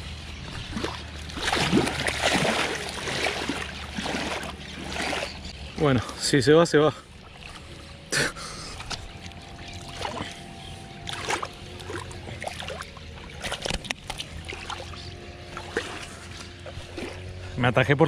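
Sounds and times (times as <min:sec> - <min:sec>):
water splashing: 0:00.4 - 0:06.3, 0:07.0 - 0:17.5.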